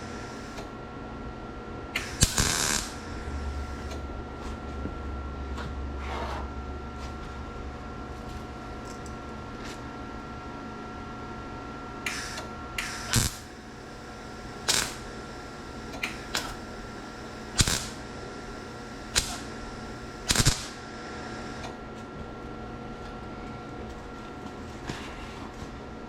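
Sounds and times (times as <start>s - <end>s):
welder crackling buzzes: 0.0s - 25.0s
steady hum: 0.0s - 26.0s.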